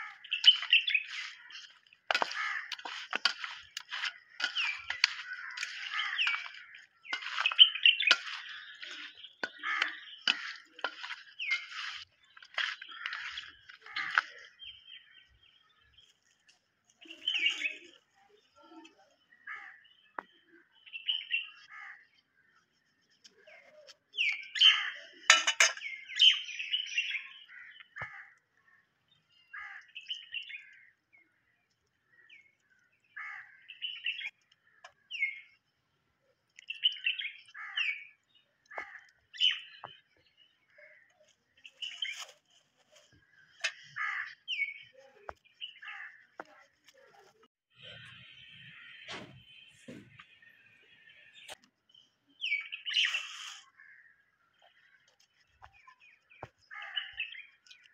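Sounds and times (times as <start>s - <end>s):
birds chirping and calling: 0.0s - 35.6s, 36.5s - 57.9s.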